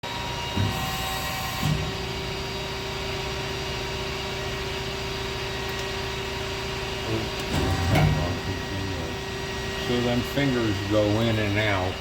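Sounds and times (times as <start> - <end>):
hydraulic pump humming: 0.0 - 12.0.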